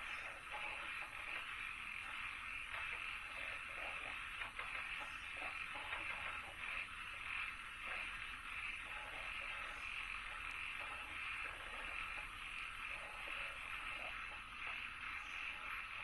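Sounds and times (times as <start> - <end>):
frogs croaking: 0.0 - 16.0
high pulsing frog trill: 0.0 - 16.0.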